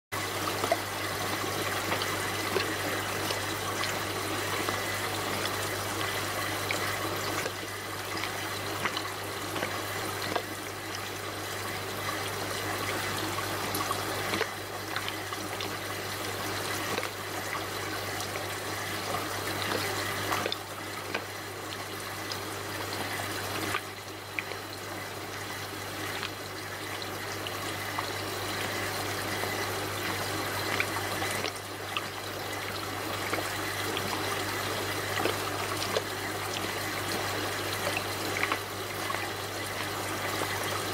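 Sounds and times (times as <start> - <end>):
aquarium water bubbling: 0.1 - 40.9.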